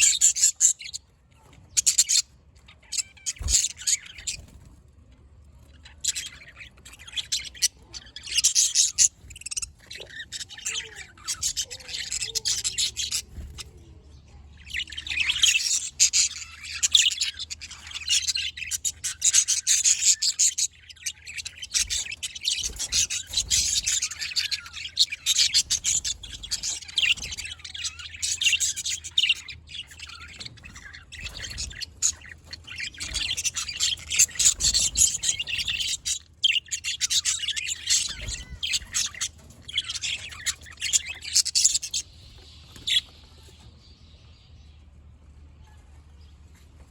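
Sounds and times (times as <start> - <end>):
budgerigars chirping and chattering: 0.0 - 46.9.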